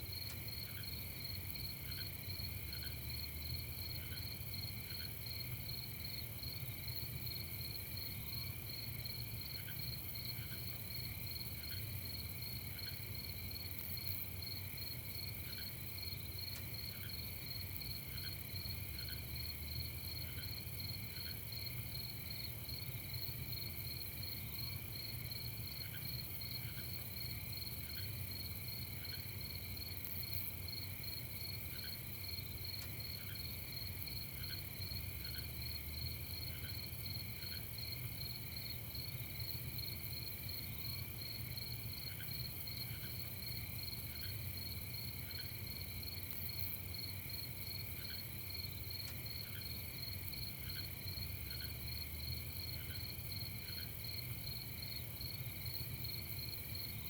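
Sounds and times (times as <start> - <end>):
crickets trilling: 0.1 - 57.0.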